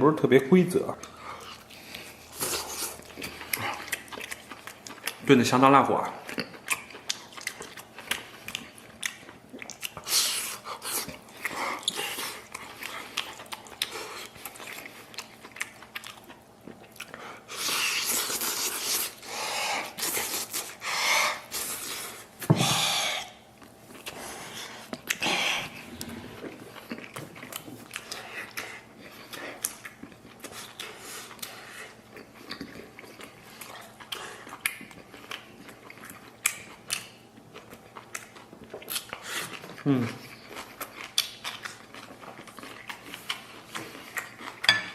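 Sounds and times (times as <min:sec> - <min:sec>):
person chewing meat: 0:00.8 - 0:05.3, 0:05.9 - 0:44.9.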